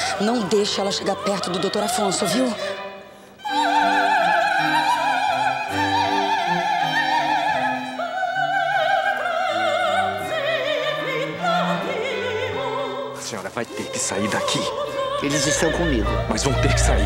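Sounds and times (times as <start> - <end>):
woman singing opera with vibrato: 0.0 - 13.2, 14.1 - 17.0
string ensemble with violins: 0.0 - 17.0.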